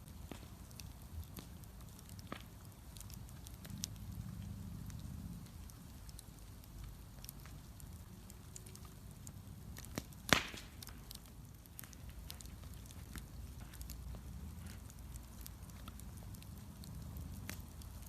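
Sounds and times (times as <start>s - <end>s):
bonfire crackling: 0.0s - 18.0s
fire popping: 0.0s - 18.0s.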